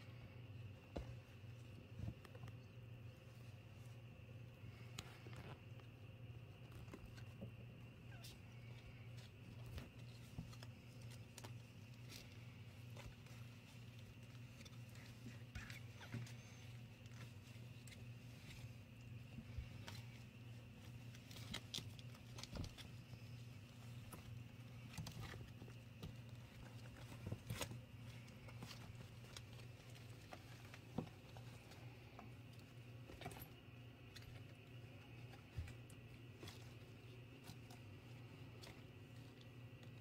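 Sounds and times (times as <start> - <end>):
kittens scuffling on fabric: 0.0 - 40.0
steady low hum: 0.0 - 40.0.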